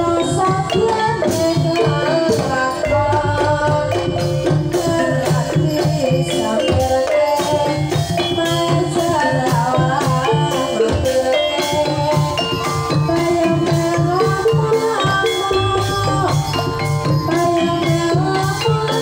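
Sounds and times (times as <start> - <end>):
hand drums beating: 0.0 - 19.0
person singing: 0.0 - 19.0
ringing gongs and metallophones: 0.0 - 19.0
wooden xylophone: 0.0 - 19.0.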